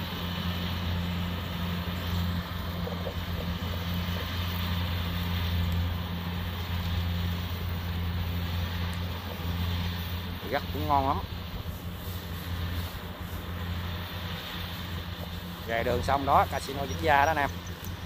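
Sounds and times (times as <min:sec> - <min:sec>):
combine harvester engine drone: 0:00.0 - 0:18.0.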